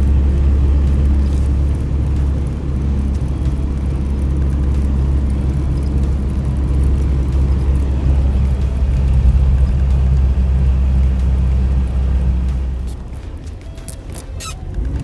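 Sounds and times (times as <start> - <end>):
vehicle engine and road drone: 0.0 - 15.0.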